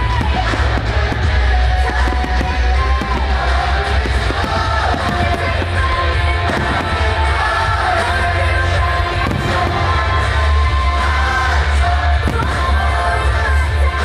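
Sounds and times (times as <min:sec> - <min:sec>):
fireworks bursting: 0:00.0 - 0:14.0
song with heavy bass: 0:00.0 - 0:14.0.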